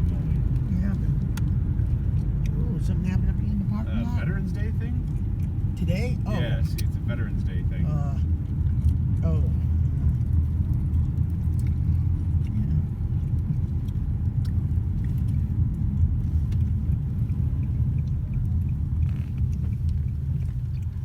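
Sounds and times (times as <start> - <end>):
car driving rumble inside cabin: 0.0 - 21.0.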